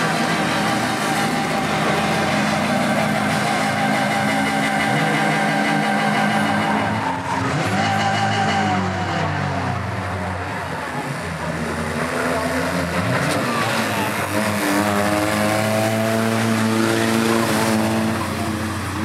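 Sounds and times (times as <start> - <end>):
engine climbing in pitch: 0.0 - 19.0
racing car engines: 0.0 - 19.0.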